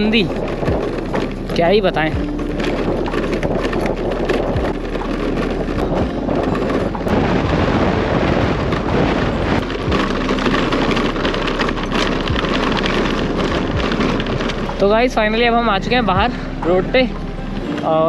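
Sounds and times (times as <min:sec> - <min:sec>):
rattles and knocks on rough track: 0:00.0 - 0:18.0
scooter engine running: 0:00.0 - 0:18.0
wind noise on microphone: 0:00.0 - 0:18.0.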